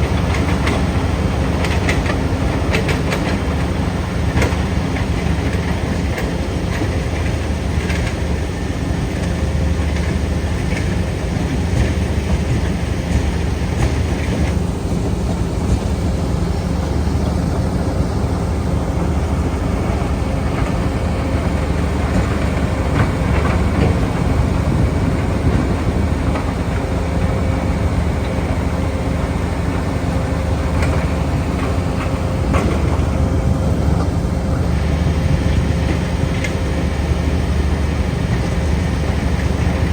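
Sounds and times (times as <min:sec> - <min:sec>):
asphalt clattering and rattling: 0:00.0 - 0:39.9
crusher engine humming: 0:00.0 - 0:39.9.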